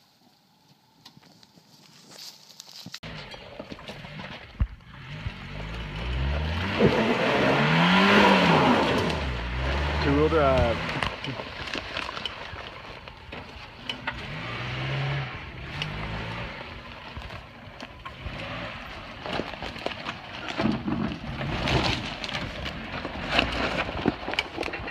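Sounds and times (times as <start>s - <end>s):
brush and sticks snapping under tyres: 0.7s - 24.9s
car engine at low revs: 3.0s - 24.9s.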